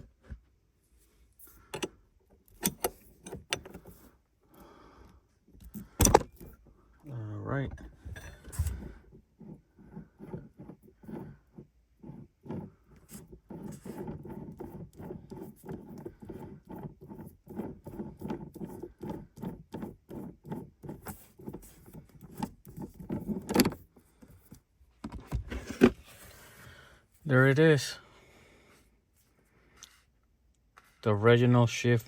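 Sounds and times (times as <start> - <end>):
scraping and clicking at shift lever: 0.0 - 6.9, 7.7 - 26.7.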